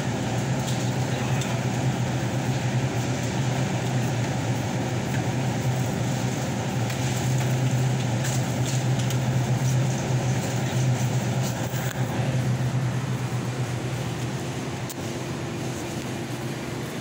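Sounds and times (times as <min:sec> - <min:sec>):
air conditioning hum: 0:00.0 - 0:17.0.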